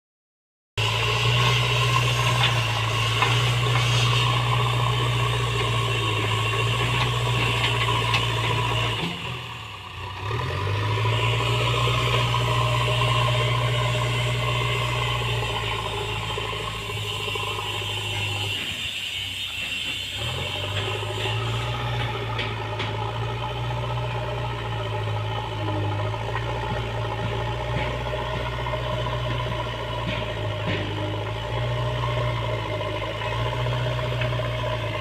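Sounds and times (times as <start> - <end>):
diesel engine droning: 0.8 - 35.0.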